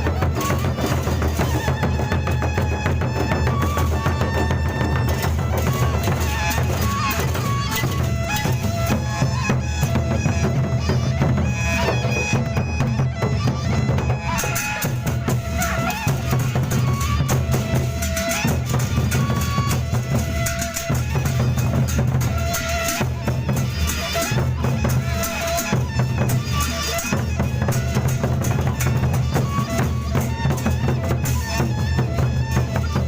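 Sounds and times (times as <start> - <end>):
large drums beating: 0.0 - 33.0
reedy wind melody: 0.0 - 33.0.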